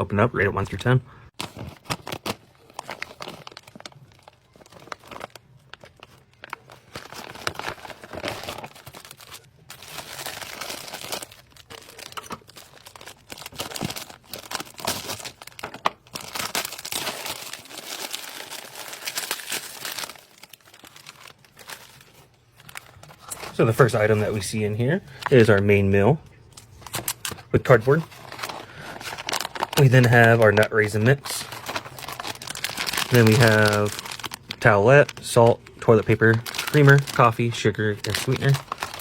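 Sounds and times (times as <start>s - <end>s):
plastic bag tearing: 1.4s - 24.0s, 26.8s - 39.0s
plastic packets rustling: 1.4s - 39.0s.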